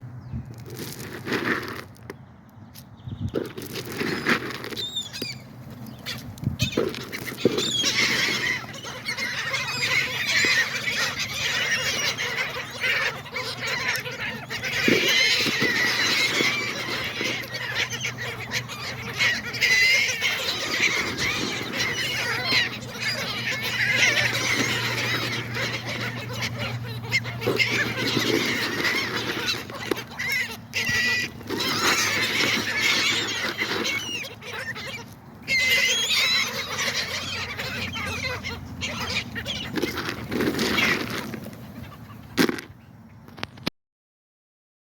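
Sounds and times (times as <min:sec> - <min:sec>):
seagulls squawking: 0:03.2 - 0:43.4.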